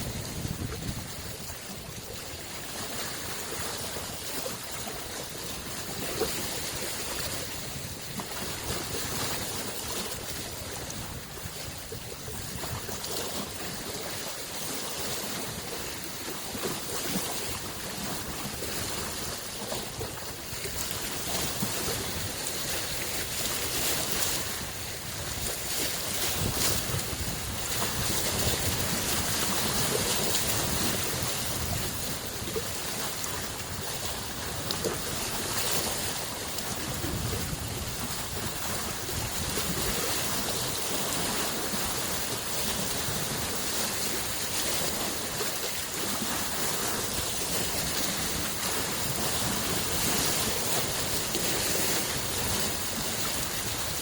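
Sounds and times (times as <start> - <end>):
small waves washing in: 0.0 - 54.0.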